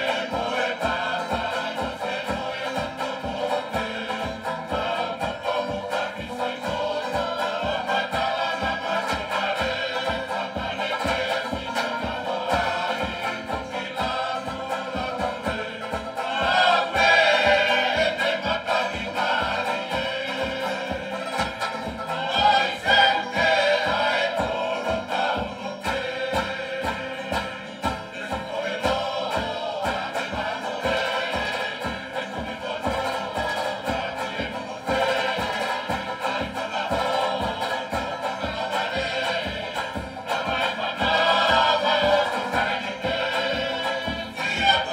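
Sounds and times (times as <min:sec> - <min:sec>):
group singing in chorus: 0:00.0 - 0:44.9
strummed banjo and strings: 0:00.0 - 0:44.9.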